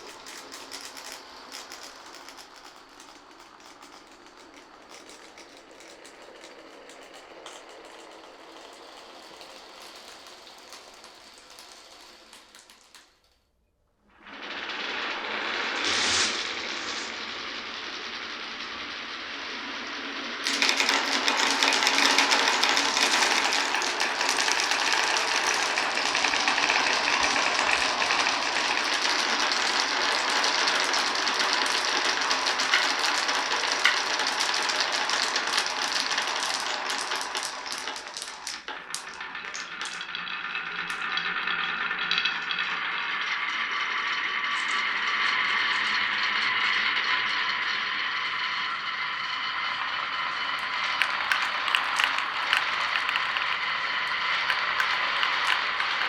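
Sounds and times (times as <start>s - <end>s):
marbles clattering down wooden run: 0.0s - 13.5s, 14.4s - 45.0s, 49.8s - 56.0s.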